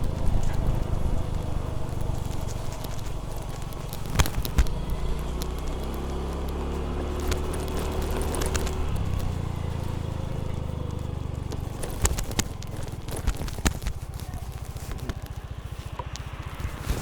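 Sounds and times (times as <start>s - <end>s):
engine chugging: 0.0s - 17.0s
sharp clicks: 0.0s - 17.0s.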